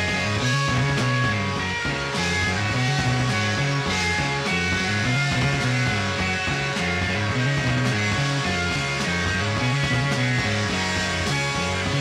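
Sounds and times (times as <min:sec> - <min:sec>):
instrumental rock music: 0:00.0 - 0:12.0.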